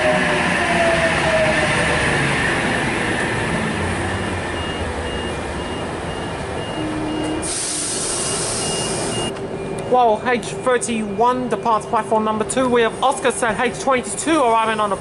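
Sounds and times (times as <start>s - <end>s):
electric train running past: 0.0s - 13.7s.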